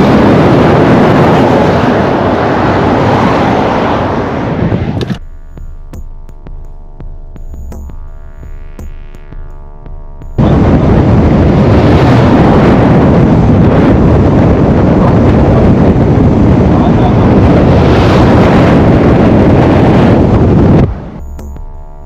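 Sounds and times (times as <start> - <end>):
car road noise at highway speed: 0.0 - 22.0
wind buffeting on microphone: 0.0 - 22.0.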